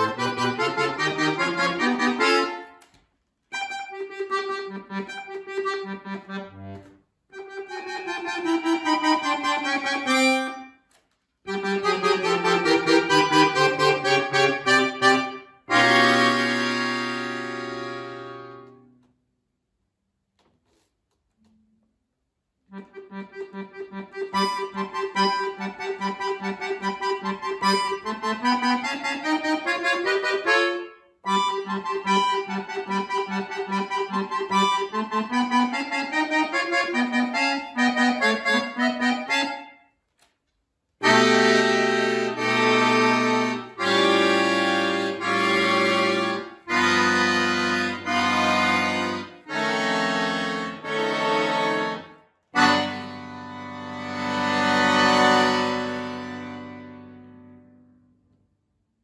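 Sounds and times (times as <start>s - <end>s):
button accordion playing: 0.0s - 2.9s, 3.5s - 10.8s, 11.5s - 18.9s, 22.7s - 40.0s, 41.0s - 57.9s.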